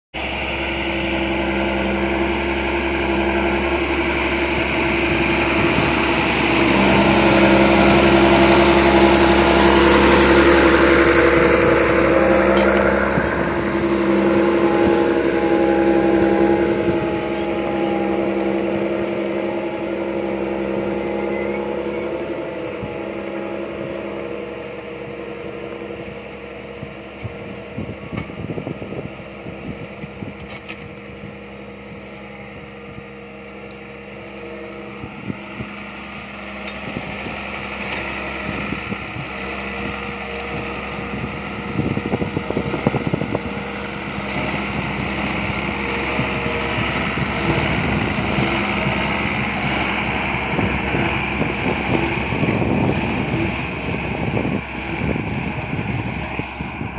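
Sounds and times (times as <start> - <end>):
tractor diesel engine under load: 0.1 - 56.9.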